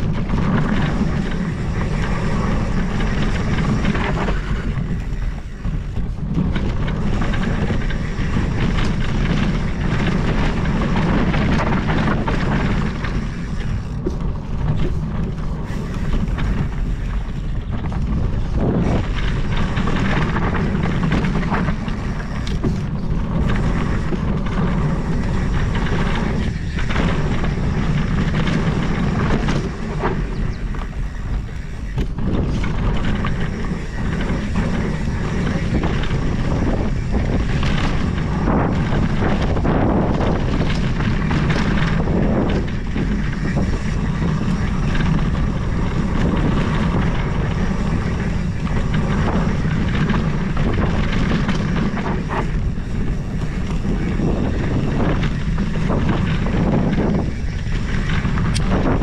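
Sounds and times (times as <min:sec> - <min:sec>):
bike knocking and rattling: 0:00.0 - 0:59.0
bike tyres rolling on dirt: 0:00.0 - 0:59.0
wind buffeting microphone: 0:00.0 - 0:59.0.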